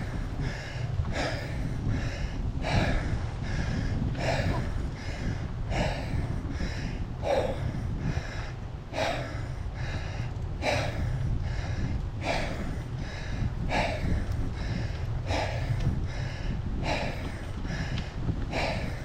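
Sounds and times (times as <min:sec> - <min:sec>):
heavy laboured breathing: 0:00.0 - 0:19.0
steady low rumble: 0:00.0 - 0:19.0.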